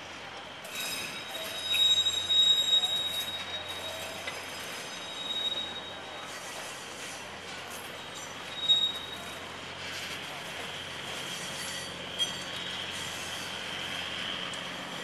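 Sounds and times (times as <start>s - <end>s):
train wheels squealing on rails: 0.0s - 15.0s.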